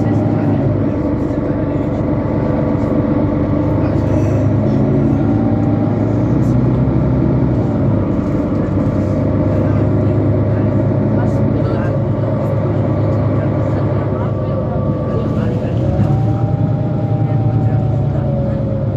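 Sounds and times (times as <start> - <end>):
bus diesel engine running: 0.0 - 18.9.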